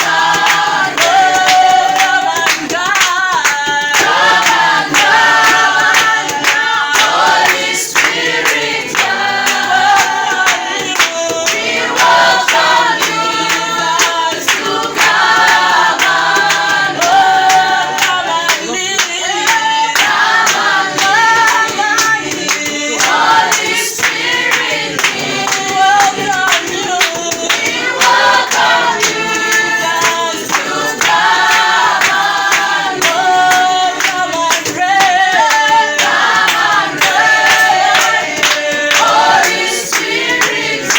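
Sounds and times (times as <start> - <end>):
group singing worship song: 0.0 - 40.9
rhythmic hand clapping: 0.0 - 40.9.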